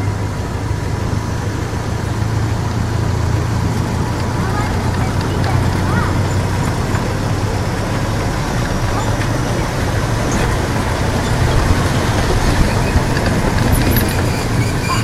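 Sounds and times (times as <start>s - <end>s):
ride train engine drone: 0.0s - 15.0s
train rolling noise: 0.0s - 15.0s.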